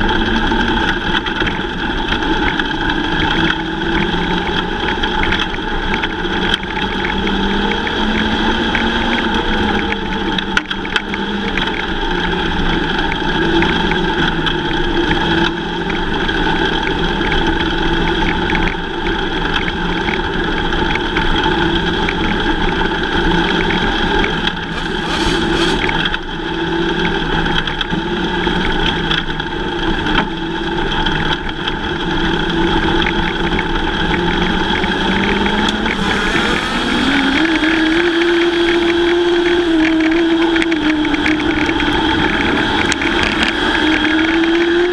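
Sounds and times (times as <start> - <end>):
race car engines: 0.0 - 44.9.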